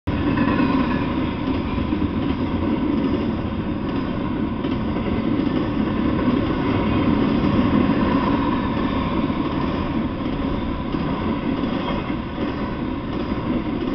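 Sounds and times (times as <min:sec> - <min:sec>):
freight train wheels rumbling: 0:00.1 - 0:13.9.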